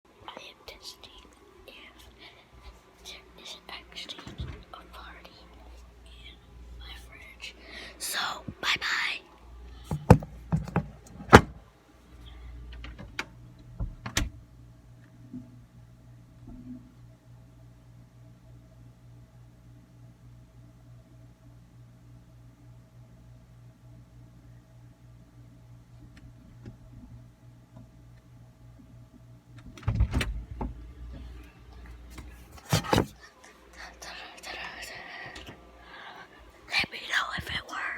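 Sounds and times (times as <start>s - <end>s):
steady low hum: 0.1s - 37.9s.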